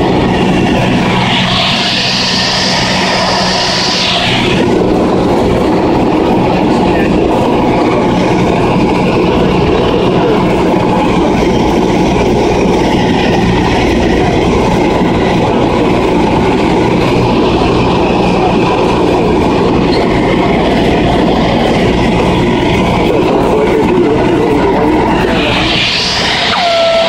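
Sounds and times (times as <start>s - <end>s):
airplane engine drone in cabin: 0.0s - 27.0s.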